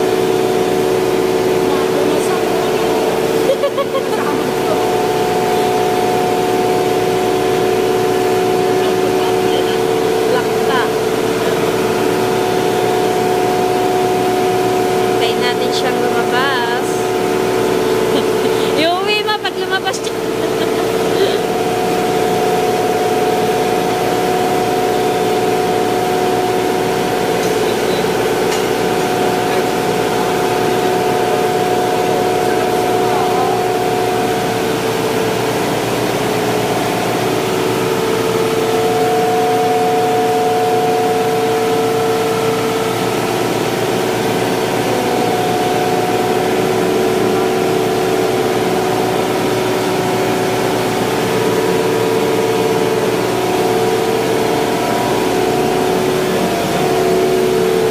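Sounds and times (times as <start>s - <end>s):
machinery drone with hum tones: 0.0s - 57.9s.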